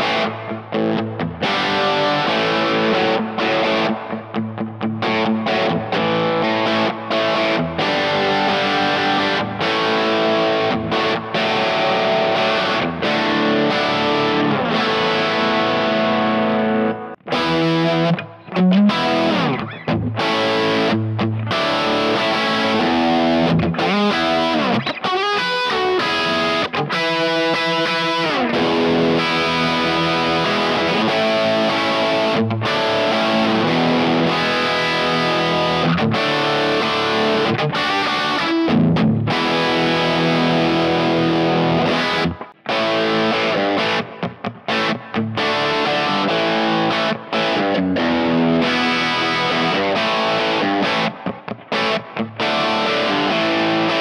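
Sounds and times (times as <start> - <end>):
distorted electric guitar: 0.0 - 54.0
guitar sliding notes: 0.0 - 54.0.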